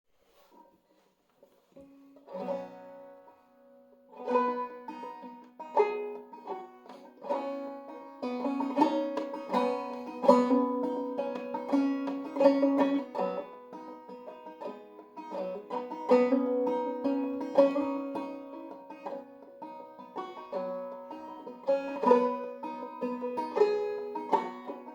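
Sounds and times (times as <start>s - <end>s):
banjo playing: 1.6s - 24.9s.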